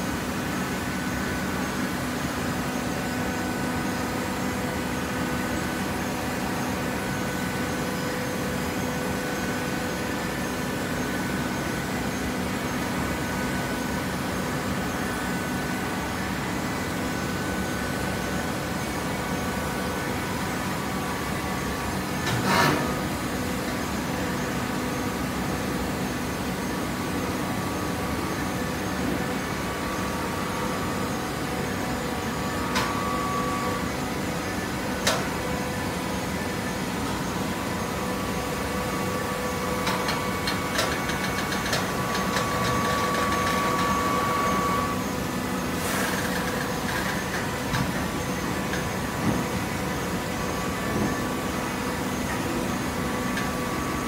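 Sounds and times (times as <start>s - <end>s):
hydraulic power unit humming: 0.0s - 54.0s.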